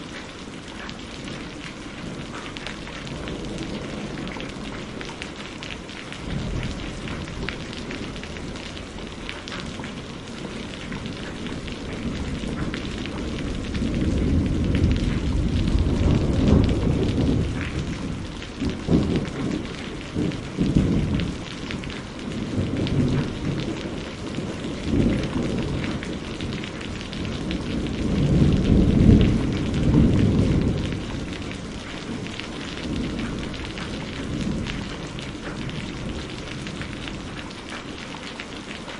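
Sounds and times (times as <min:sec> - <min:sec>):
steady rain: 0:00.0 - 0:38.9
thunder rumbling: 0:00.7 - 0:38.0.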